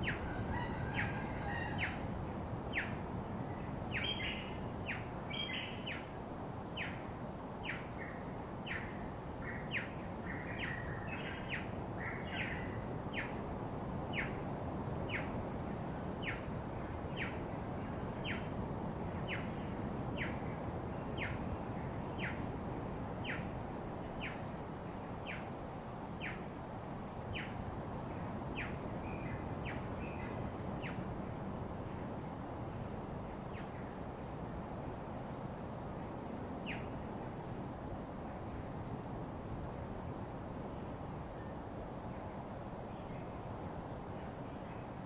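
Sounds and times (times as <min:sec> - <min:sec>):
low rushing background noise: 0:00.0 - 0:45.0.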